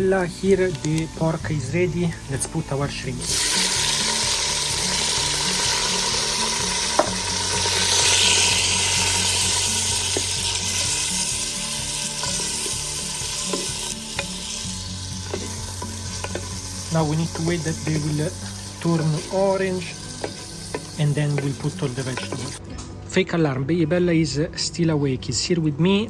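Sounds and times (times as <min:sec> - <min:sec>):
food sizzling in hot oil: 0:00.0 - 0:22.6.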